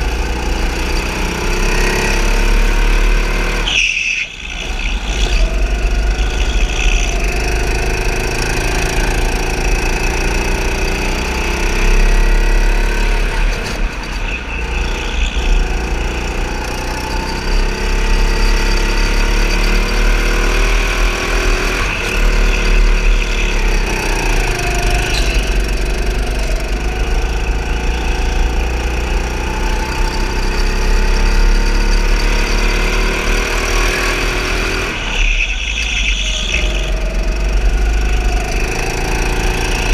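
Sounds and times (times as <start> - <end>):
go-kart motor running: 0.0 - 39.9.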